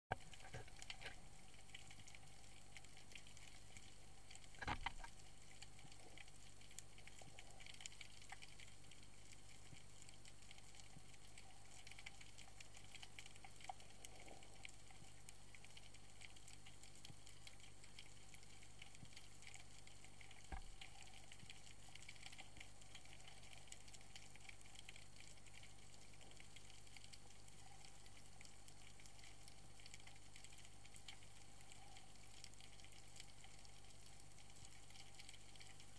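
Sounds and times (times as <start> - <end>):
fine underwater crackle: 0.1 - 35.9.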